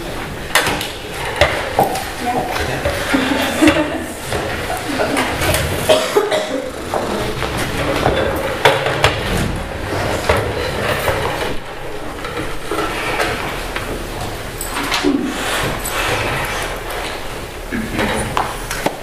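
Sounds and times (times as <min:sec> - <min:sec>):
instruments and stands clattering: 0:00.0 - 0:19.0
chair being moved: 0:00.5 - 0:18.6.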